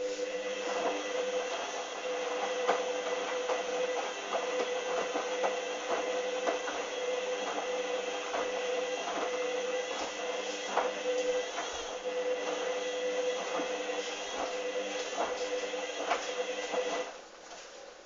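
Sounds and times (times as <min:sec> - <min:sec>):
washing machine motor whine: 0:00.0 - 0:17.2.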